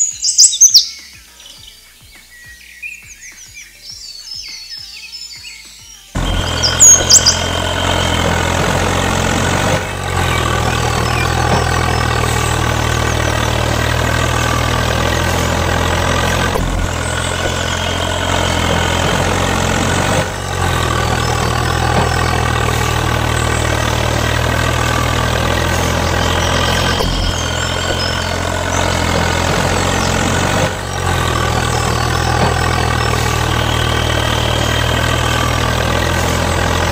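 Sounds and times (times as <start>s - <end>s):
tractor engine idling: 6.2s - 36.9s.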